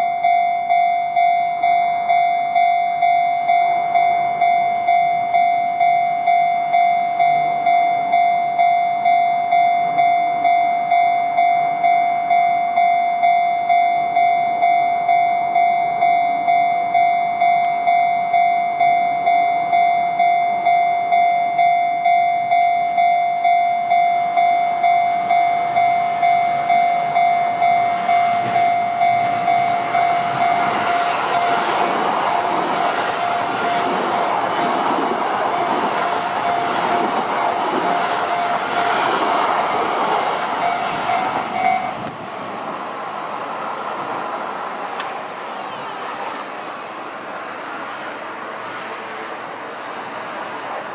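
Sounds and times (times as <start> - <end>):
level crossing alarm dinging: 0.0 - 42.1
electric train rumbling: 0.0 - 50.9.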